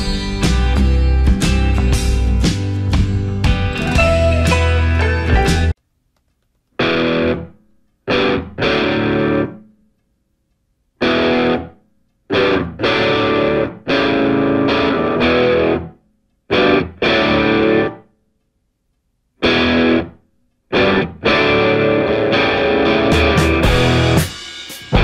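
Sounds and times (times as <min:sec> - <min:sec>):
distorted electric guitar chords: 0:00.0 - 0:05.8, 0:06.8 - 0:09.7, 0:11.0 - 0:18.0, 0:19.4 - 0:25.0.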